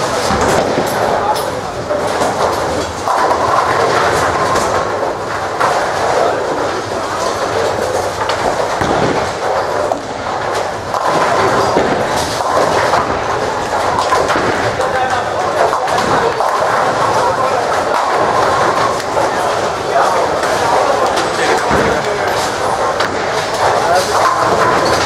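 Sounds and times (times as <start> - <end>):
bowling balls rolling: 0.0 - 25.0
bowling pins clattering: 0.0 - 25.0.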